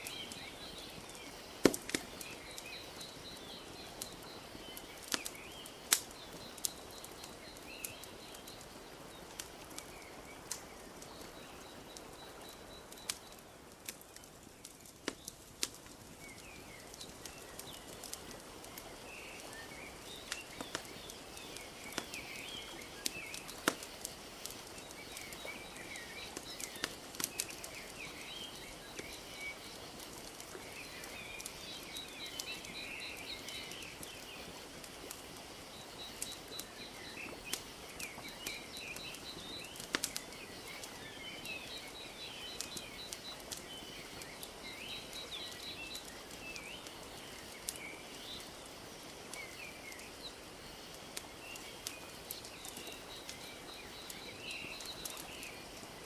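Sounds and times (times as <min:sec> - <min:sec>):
birds chirping: 0:00.0 - 0:56.0
wood fire crackling: 0:00.0 - 0:56.0.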